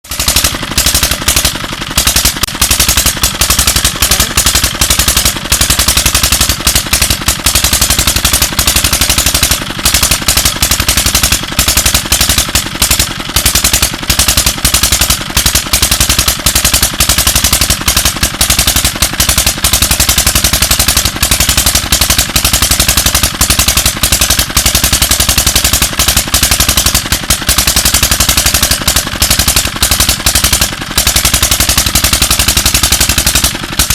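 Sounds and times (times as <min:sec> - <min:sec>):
pump engine exhaust bangs: 0:00.1 - 0:33.9.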